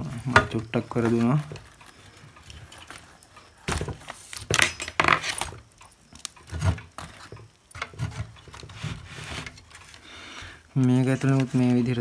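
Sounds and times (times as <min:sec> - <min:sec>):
plastic and metal parts clicking: 0:00.0 - 0:12.0.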